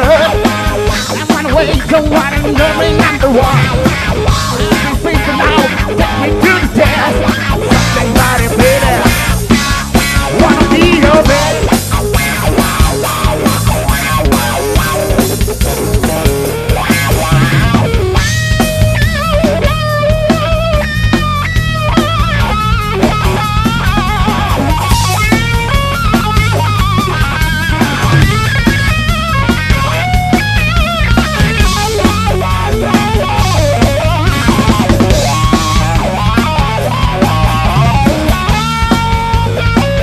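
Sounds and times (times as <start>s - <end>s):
bass guitar: 0.0s - 40.0s
drum kit: 0.0s - 40.0s
lead electric guitar: 0.0s - 40.0s.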